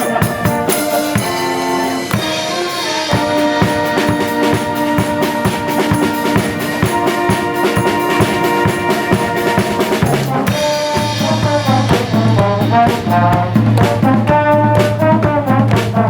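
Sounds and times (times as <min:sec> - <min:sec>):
brass band playing: 0:00.0 - 0:16.0
drum beat: 0:00.0 - 0:16.0.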